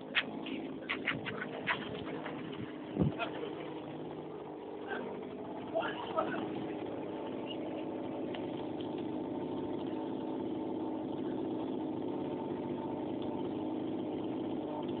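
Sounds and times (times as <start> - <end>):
motorbike engine idling: 0.0 - 15.0.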